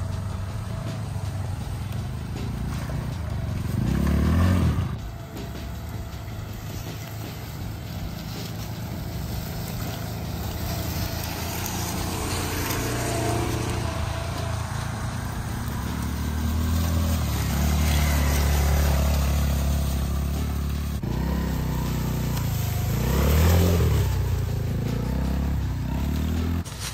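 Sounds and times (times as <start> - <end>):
off-road vehicle engine running: 0.0 - 26.9.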